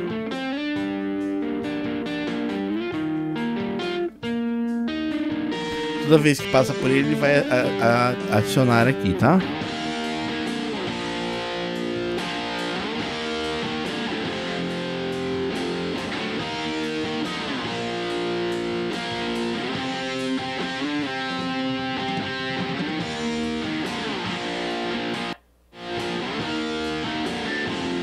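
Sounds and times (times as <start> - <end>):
bass guitar: 0.0 - 28.0
electric guitar chords: 0.0 - 28.0.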